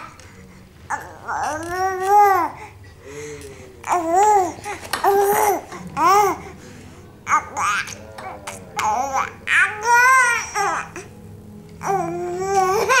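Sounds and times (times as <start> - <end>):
baby babbling: 0.9 - 6.5, 7.2 - 11.1, 11.8 - 13.0.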